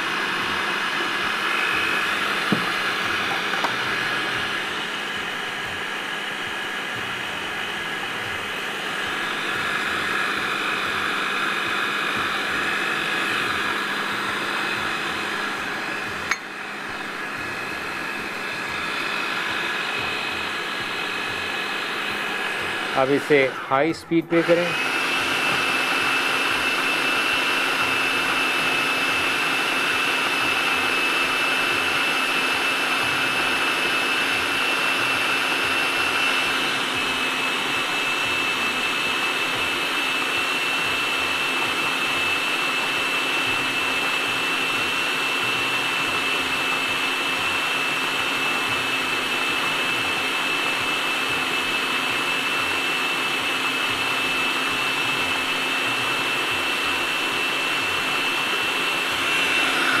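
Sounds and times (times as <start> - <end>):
food processor motor whining: 0.0 - 60.0.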